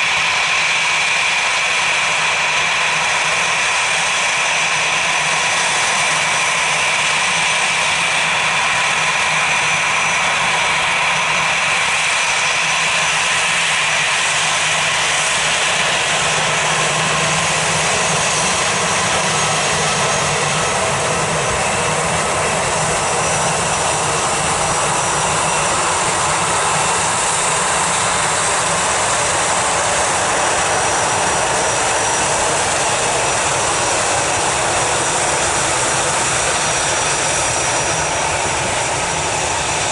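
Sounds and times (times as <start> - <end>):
jet engine whine: 0.0 - 39.9.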